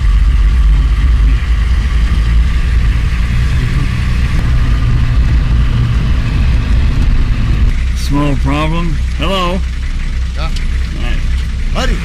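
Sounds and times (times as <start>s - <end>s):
car engine: 0.0s - 12.0s
road rumble: 0.0s - 12.0s.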